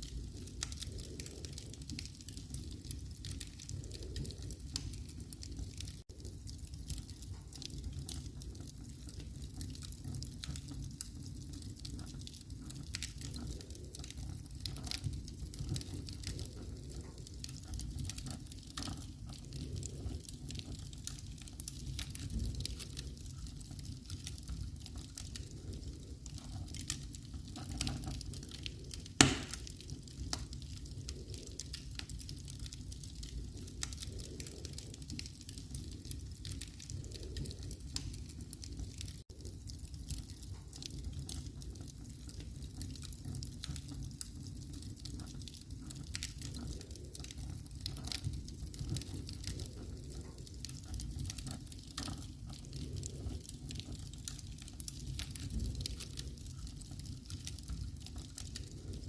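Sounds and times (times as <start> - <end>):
fire low rumble: 0.0 - 59.0
wood fire crackling: 0.0 - 59.0.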